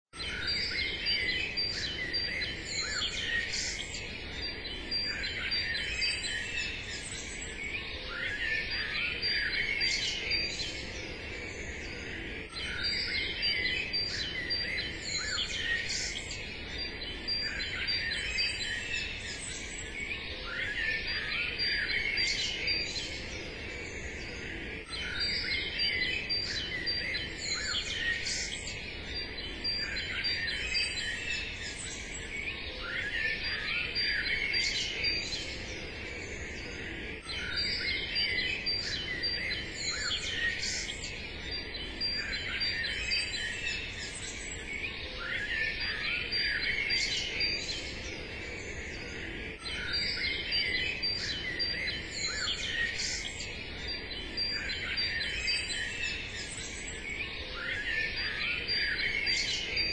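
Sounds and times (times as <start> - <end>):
small birds chirping: 0.2 - 59.9.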